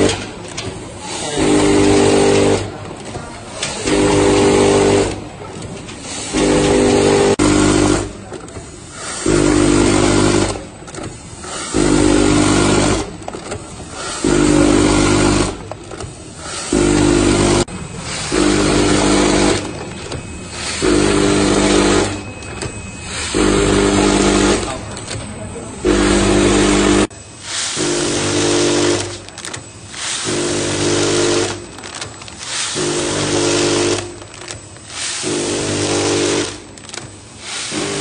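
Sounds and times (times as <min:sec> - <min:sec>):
mechanical machine noise: 0:00.0 - 0:38.0
packing machine motor hum: 0:00.0 - 0:38.0.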